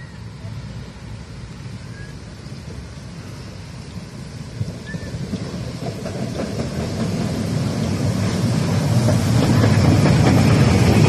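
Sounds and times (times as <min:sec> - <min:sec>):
steam train passing: 0:00.0 - 0:11.0.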